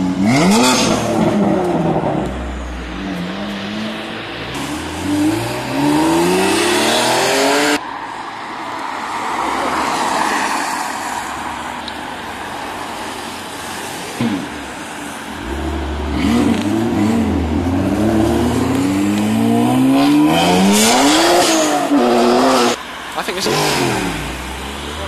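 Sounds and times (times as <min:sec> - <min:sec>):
car driving off: 0:00.0 - 0:07.8, 0:09.3 - 0:25.0
car engines revving hard: 0:00.0 - 0:07.8, 0:09.6 - 0:25.0.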